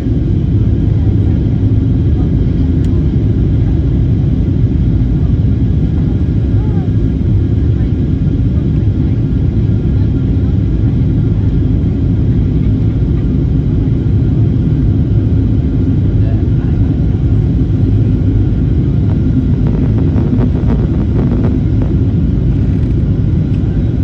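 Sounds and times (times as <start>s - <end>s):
airplane cabin engine roar: 0.0s - 24.0s.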